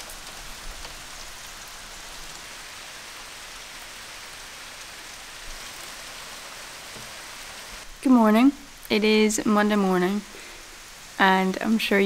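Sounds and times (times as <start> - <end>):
faint raindrops: 0.0 - 12.0
steady rain hiss: 0.0 - 12.0.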